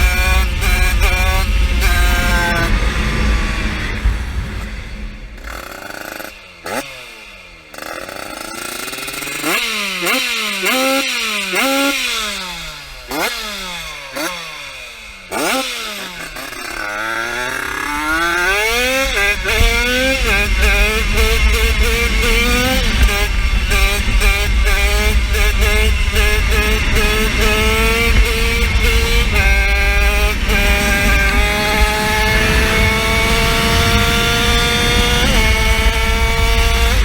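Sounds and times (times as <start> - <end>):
motorbike engine at full throttle: 0.0 - 37.0.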